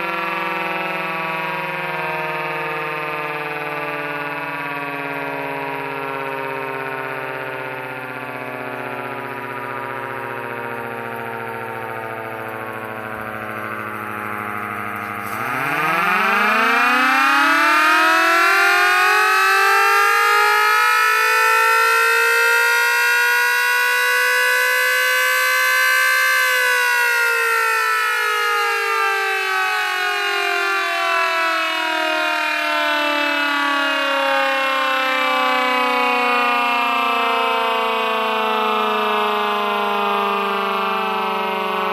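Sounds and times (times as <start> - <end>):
mechanical siren wailing: 0.0 - 41.9.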